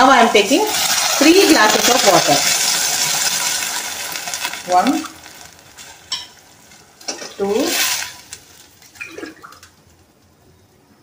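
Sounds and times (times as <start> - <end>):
oil sizzling: 0.0 - 10.5
water gurgling into pan: 0.7 - 9.8.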